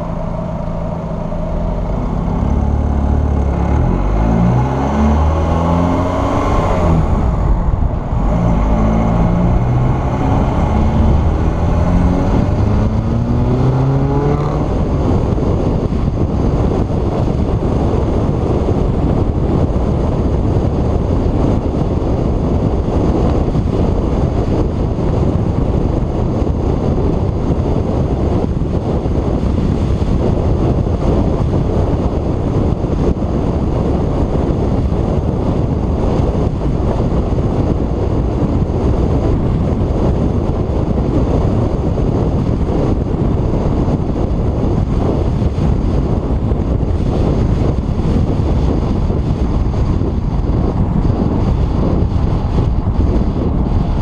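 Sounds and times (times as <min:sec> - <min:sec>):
car road noise: 0:00.0 - 0:54.0
wind buffeting microphone: 0:00.0 - 0:54.0.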